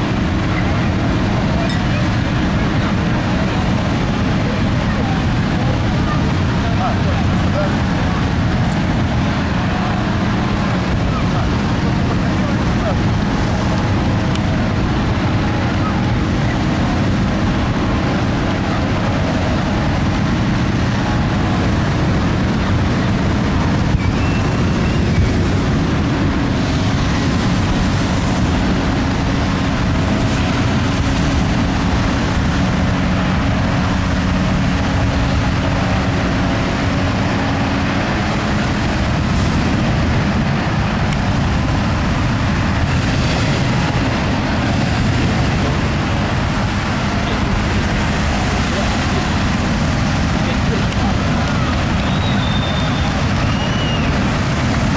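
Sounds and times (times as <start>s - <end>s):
inflator fans running: 0.0s - 54.9s.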